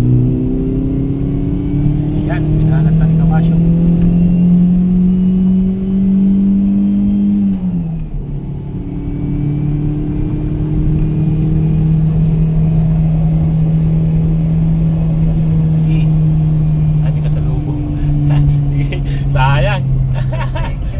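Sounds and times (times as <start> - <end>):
car engine accelerating hard: 0.0 - 20.9.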